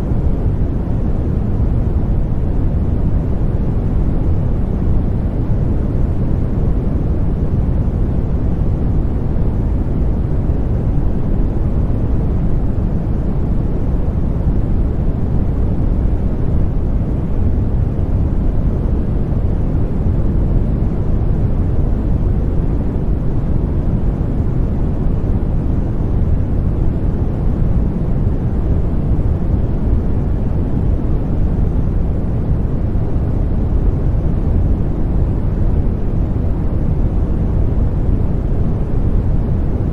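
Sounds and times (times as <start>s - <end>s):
white noise rush: 0.0s - 39.9s.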